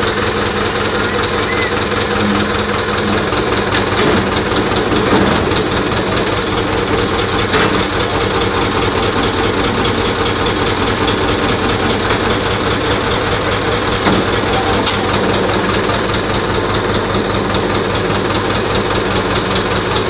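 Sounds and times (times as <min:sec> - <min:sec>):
heavy crane engine running: 0:00.0 - 0:20.0.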